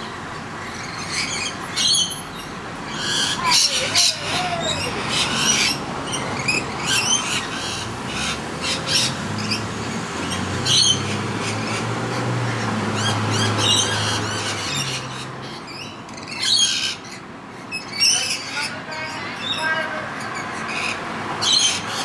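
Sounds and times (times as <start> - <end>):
parrots screeching: 0.6 - 9.6, 10.2 - 11.8, 12.5 - 22.0.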